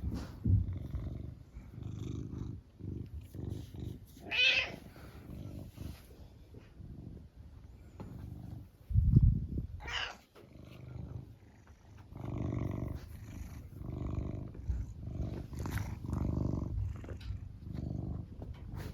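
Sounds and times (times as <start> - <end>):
cat purring: 0.0 - 18.9.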